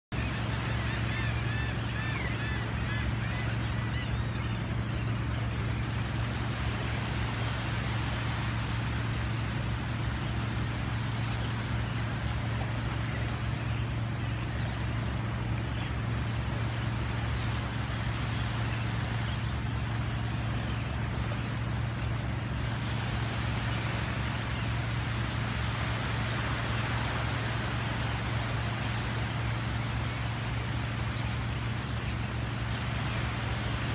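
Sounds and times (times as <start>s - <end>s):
small waves washing ashore: 0.1s - 33.9s
bird calls: 0.2s - 33.9s
low motor hum: 0.2s - 33.9s.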